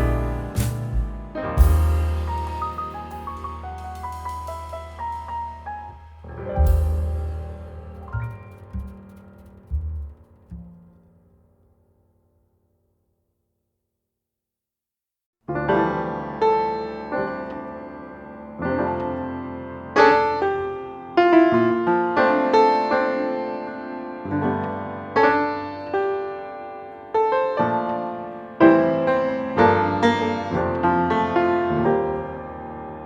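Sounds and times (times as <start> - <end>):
jazz piano chords: 0.0 - 11.6, 15.5 - 33.0.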